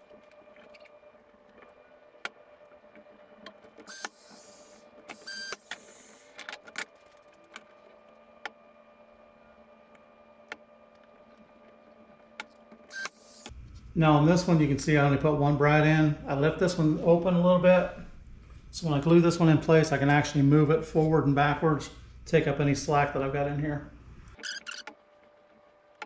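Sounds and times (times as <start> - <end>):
faint steady hum: 0.0 - 24.4.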